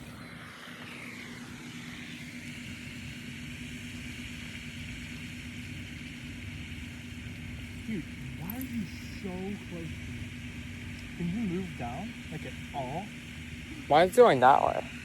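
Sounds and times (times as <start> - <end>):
vehicle engine hum and whine: 0.0 - 15.0.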